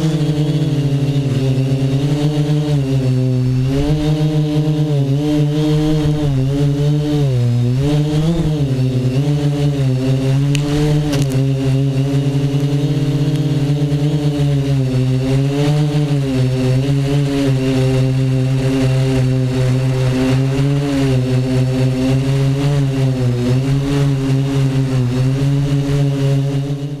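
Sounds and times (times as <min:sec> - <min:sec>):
drone propellers buzzing: 0:00.0 - 0:27.0.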